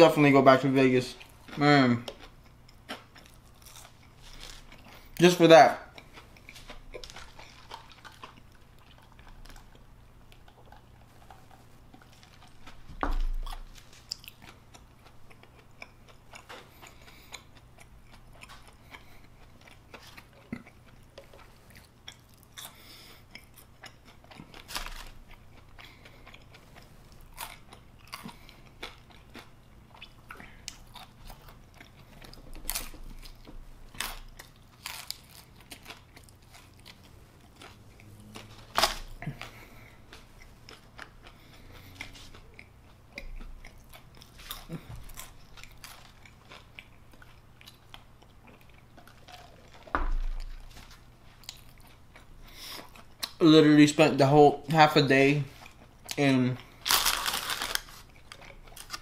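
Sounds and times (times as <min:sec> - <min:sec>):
chewing and wet mouth noises: 0:01.1 - 0:53.4, 0:55.5 - 0:59.0.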